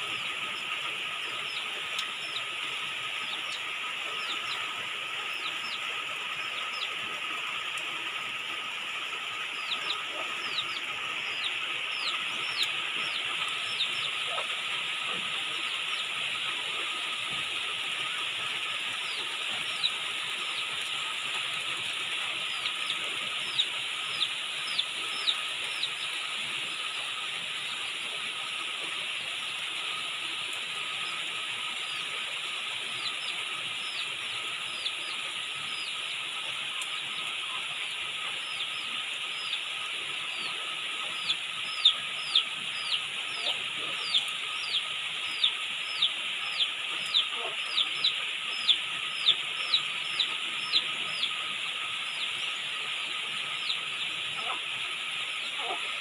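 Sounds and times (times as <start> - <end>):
bird chirping: 0.0 - 7.0, 9.4 - 28.6, 32.9 - 54.6
rain on foliage: 0.0 - 56.0.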